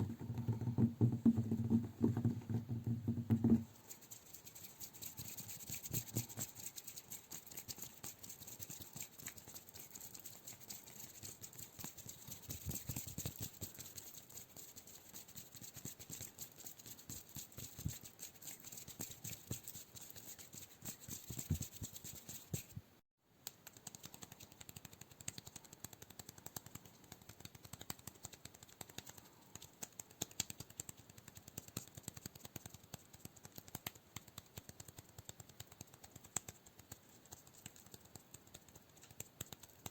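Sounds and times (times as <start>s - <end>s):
hands crackling tapping and scratching: 0.0s - 22.8s, 23.4s - 39.9s.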